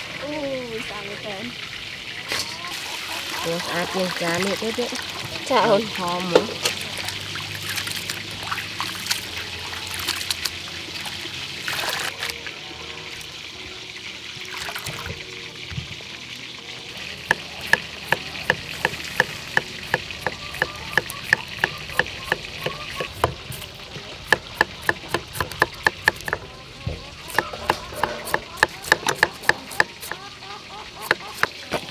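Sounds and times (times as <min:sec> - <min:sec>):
water splashing and trickling: 0:00.0 - 0:31.9.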